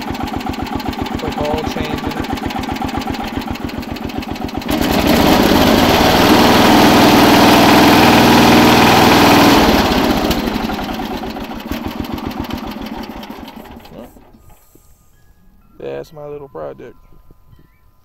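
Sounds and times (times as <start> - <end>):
lawn mower engine revving: 0.0 - 14.6.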